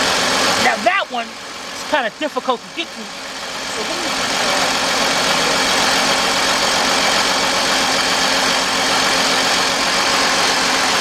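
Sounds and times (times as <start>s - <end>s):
car engine idling with misfire: 0.0s - 11.0s.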